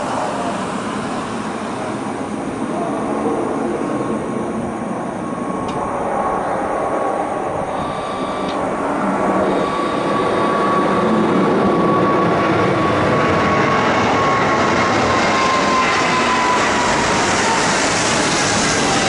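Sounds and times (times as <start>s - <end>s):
jet engines at takeoff thrust: 0.0s - 19.0s.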